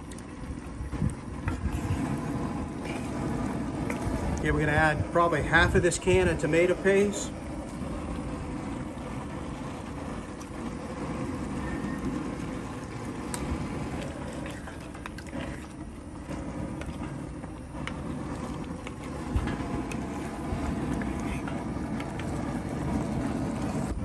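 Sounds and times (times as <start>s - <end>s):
gas burner running: 0.0s - 24.0s.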